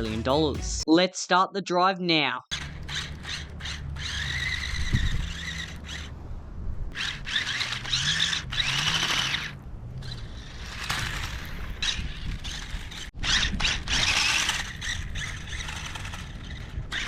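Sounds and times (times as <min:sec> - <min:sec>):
toy car electric motor whining: 0:02.5 - 0:06.1, 0:06.9 - 0:17.0.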